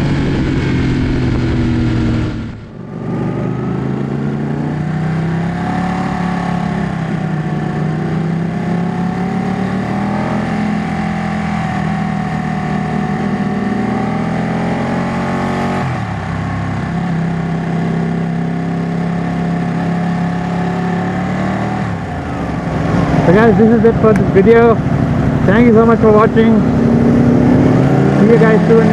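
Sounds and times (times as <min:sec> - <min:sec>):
motorcycle engine cruising: 0:00.0 - 0:28.9.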